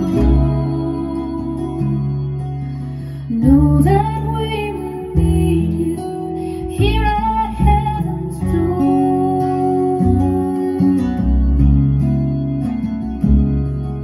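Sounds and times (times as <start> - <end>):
person singing: 0.0 - 11.4
acoustic guitar: 0.0 - 14.0
bass line: 0.0 - 14.0.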